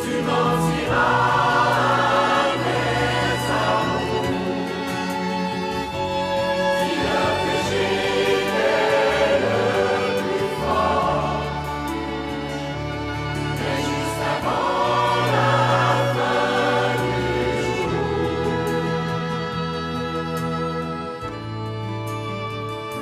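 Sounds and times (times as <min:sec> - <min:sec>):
mixed choir singing: 0:00.0 - 0:20.1
small string ensemble: 0:00.0 - 0:23.0.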